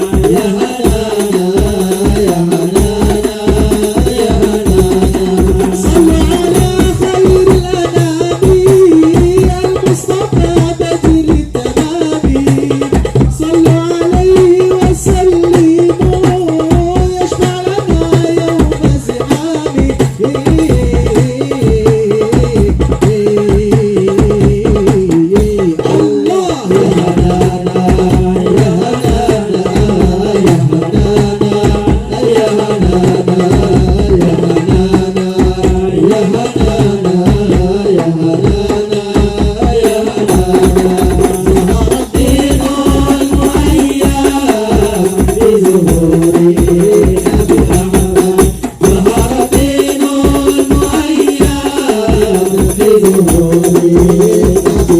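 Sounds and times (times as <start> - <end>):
frame drums in fast rhythm: 0.0 - 54.9.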